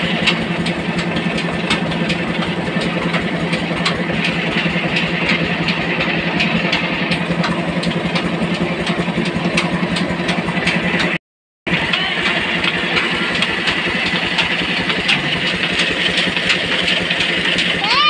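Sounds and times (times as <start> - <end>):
regular mechanical knocking: 0.0 - 17.8
flour mill running: 0.0 - 18.0.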